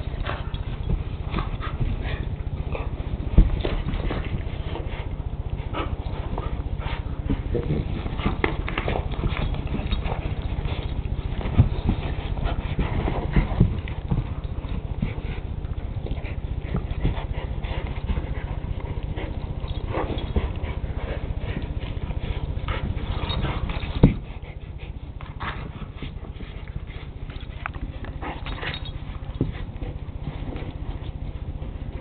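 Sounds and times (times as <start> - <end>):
dogs growling: 0.0 - 32.0
scuffling and bumping: 0.0 - 32.0.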